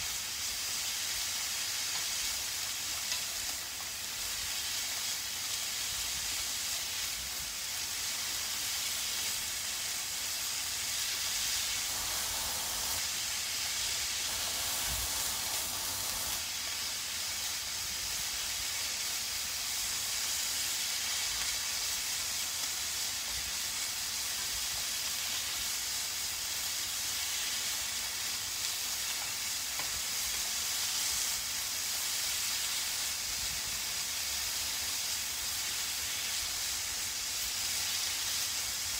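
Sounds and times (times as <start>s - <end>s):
vegetables sizzling in a frying pan: 0.0s - 38.9s.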